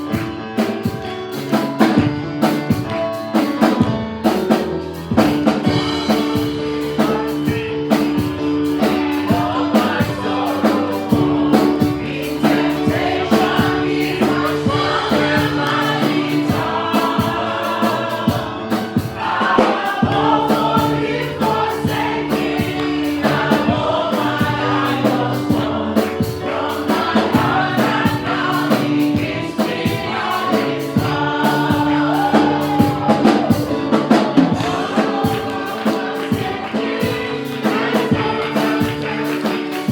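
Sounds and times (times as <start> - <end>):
steady drum beat: 0.0 - 39.9
sustained keyboard chords: 0.0 - 39.9
choir singing: 3.3 - 39.9.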